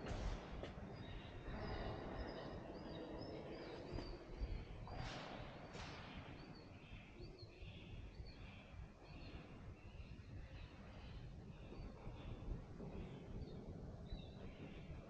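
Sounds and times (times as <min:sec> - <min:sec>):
low background rumble: 0:00.0 - 0:15.0
small birds chirping: 0:00.0 - 0:15.0.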